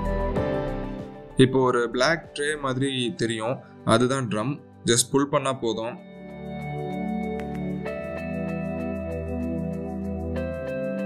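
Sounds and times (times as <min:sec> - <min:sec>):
instrumental music sustained chords: 0:00.0 - 0:11.0.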